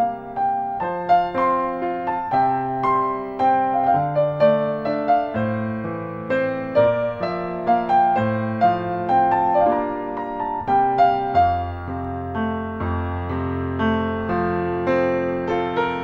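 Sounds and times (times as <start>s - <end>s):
gentle slow piano music: 0.0s - 16.0s.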